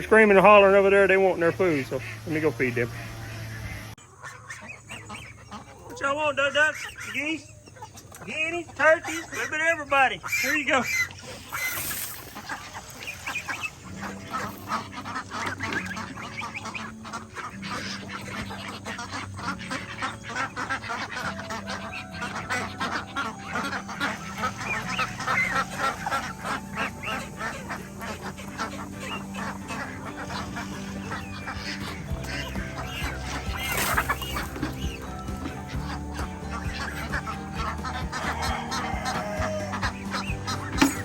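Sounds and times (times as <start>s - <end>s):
ducks quacking: 0.0s - 41.0s
geese honking: 0.0s - 41.0s.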